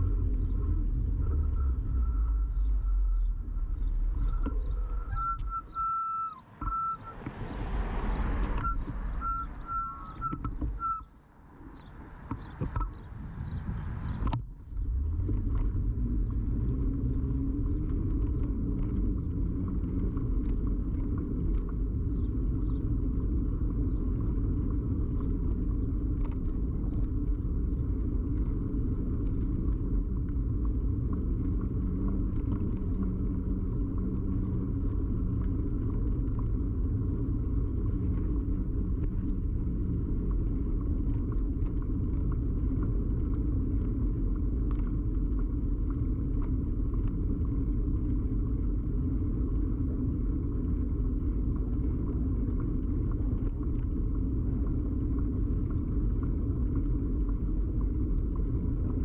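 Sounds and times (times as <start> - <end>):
moving bicycle rumble: 0.0 - 59.0
faint rattling ticks: 11.7 - 59.0.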